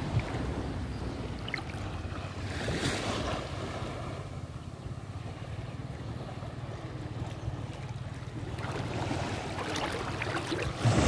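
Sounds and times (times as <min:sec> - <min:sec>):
small waves washing over sand: 0:00.0 - 0:04.5, 0:05.2 - 0:11.0.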